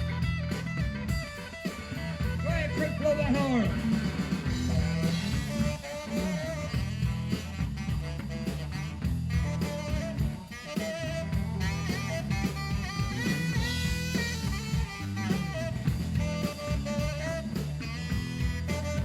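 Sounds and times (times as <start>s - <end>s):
drums: 0.0s - 19.0s
electric guitar: 0.0s - 19.0s
horn solo: 0.0s - 19.0s.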